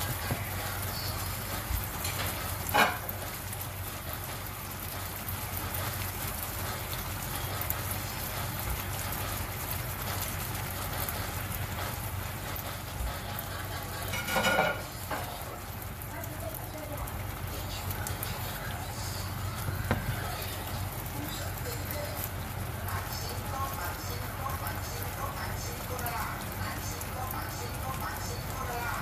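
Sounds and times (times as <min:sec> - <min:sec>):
meat sizzling and bubbling in sauce: 0:00.0 - 0:29.0.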